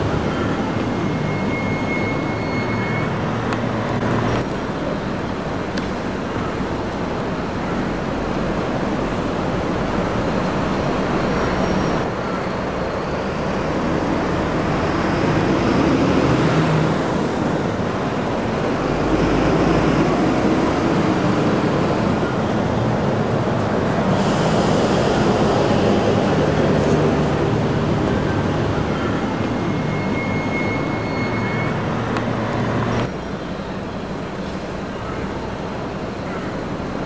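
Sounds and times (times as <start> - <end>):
road traffic hum: 0.0 - 37.0.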